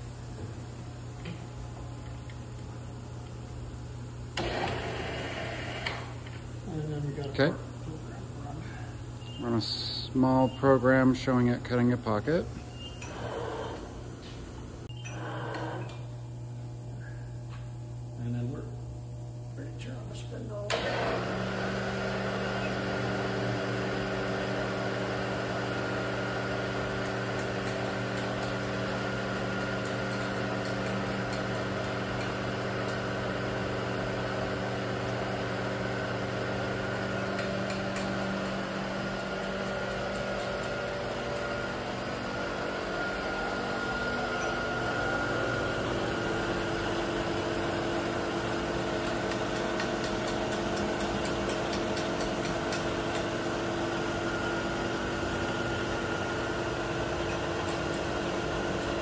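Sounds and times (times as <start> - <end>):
milling machine hum: 0.0 - 59.0.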